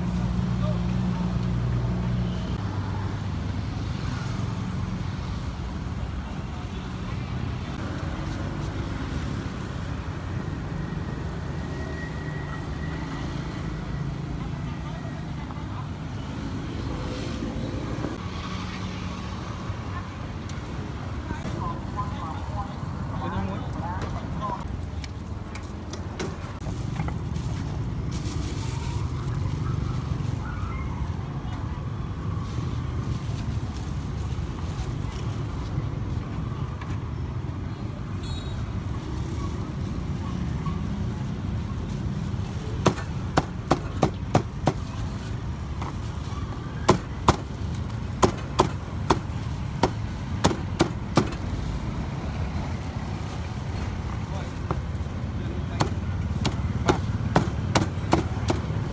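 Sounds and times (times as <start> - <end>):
low rumble of street traffic: 0.0 - 58.9.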